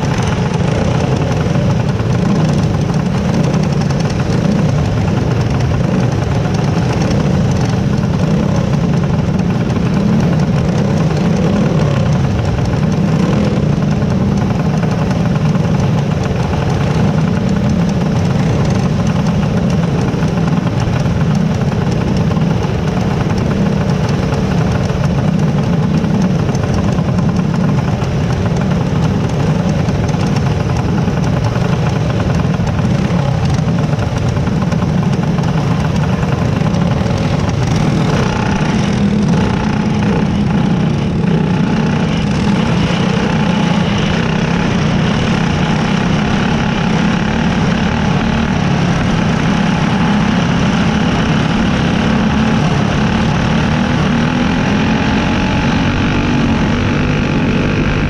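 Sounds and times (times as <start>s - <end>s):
race car engines idling: 0.0s - 58.0s.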